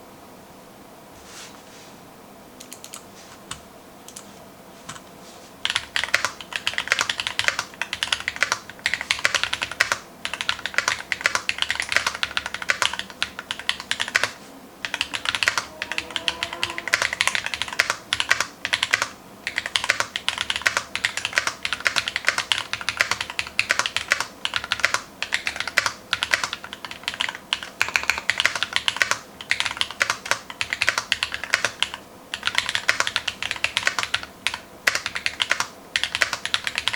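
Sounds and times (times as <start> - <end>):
mechanical keyboard typing: 2.6 - 4.3, 5.6 - 36.9.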